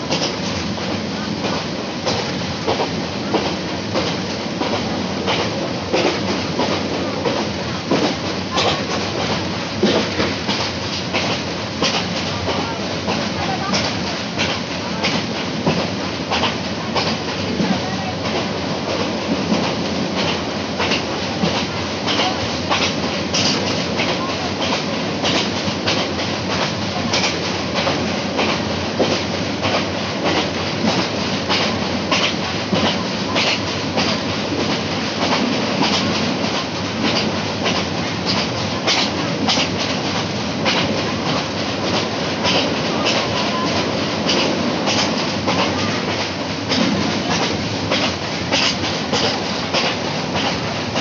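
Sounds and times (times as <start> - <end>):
train rumble and rush: 0.0 - 51.0
wheels clacking over rails: 1.5 - 51.0.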